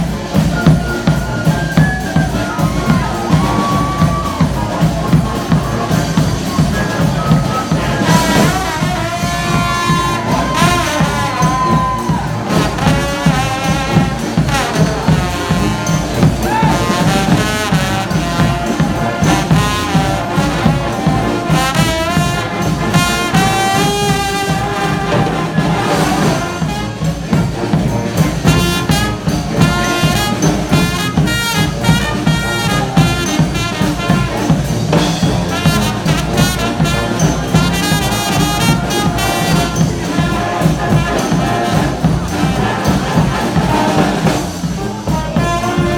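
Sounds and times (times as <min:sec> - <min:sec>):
steady drumbeat: 0:00.0 - 0:45.9
trumpets and trombones: 0:00.0 - 0:45.9.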